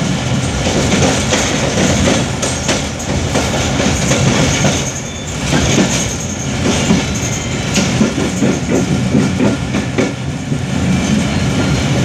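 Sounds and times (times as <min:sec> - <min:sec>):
train rumble: 0:00.0 - 0:12.0
wheels clacking over rail joints: 0:00.4 - 0:10.2.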